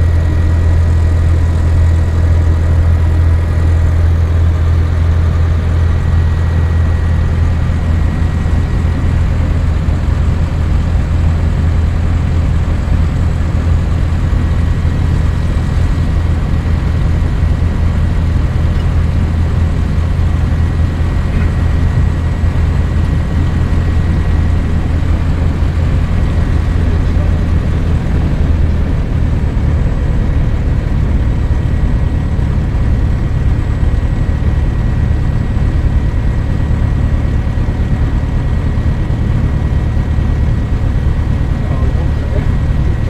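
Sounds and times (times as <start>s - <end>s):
aircraft engine and propeller drone: 0.0s - 43.0s.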